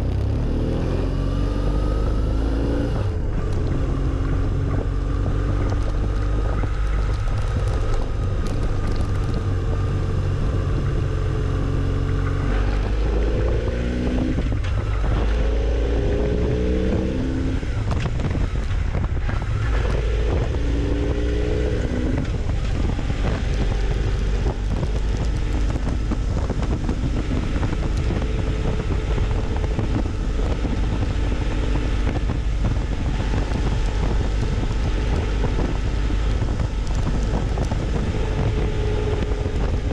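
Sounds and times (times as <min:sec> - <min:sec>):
motorcycle engine shifting gears: 0:00.0 - 0:39.9
wind rushing over microphone: 0:00.0 - 0:39.9.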